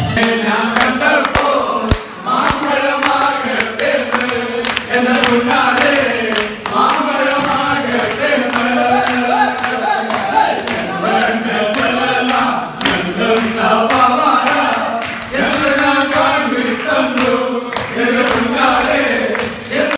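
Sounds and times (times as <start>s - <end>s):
men singing in chorus: 0.0s - 19.9s
rhythmic hand-clapping: 0.0s - 19.9s.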